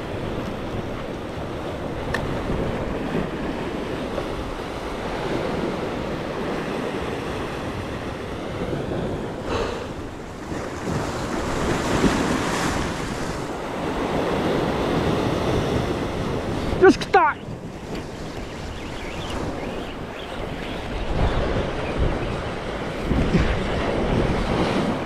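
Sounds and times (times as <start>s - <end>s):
waves washing on rocky shore: 0.0s - 25.0s
wind buffeting microphone: 0.0s - 25.0s.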